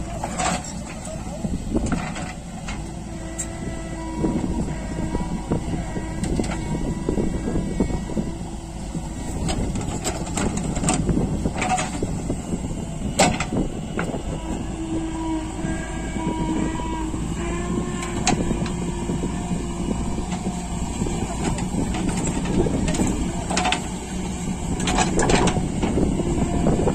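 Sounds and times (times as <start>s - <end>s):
diesel engines rumbling: 0.0s - 26.9s.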